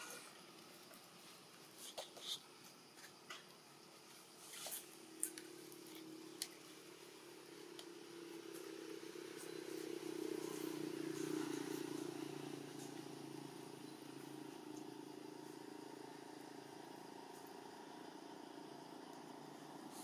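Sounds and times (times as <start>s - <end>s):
faint engine droning: 3.6s - 20.0s.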